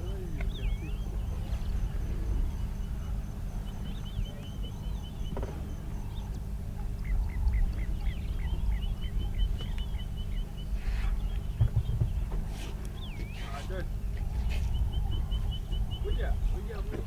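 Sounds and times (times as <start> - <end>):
steady low rumble: 0.0 - 17.0
wild birds calling: 0.0 - 17.0.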